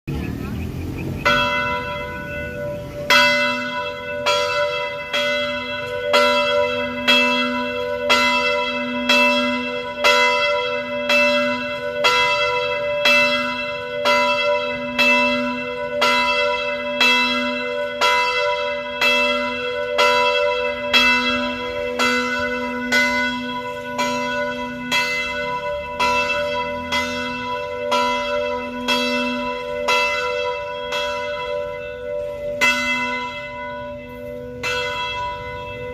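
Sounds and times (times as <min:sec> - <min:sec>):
church bell ringing: 0:01.2 - 0:35.9.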